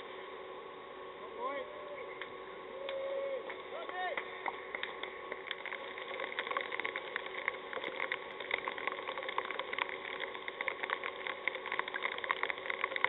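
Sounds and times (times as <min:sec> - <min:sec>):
crackly hiss: 0:00.0 - 0:13.0
faint irregular clicks: 0:02.2 - 0:13.0.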